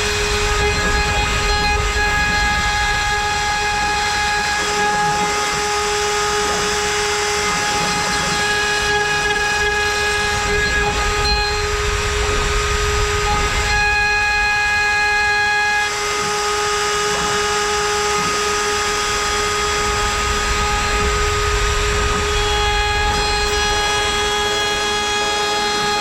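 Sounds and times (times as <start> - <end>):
cutter rasping through wood: 0.0 - 26.0
router spindle high whine: 0.0 - 26.0.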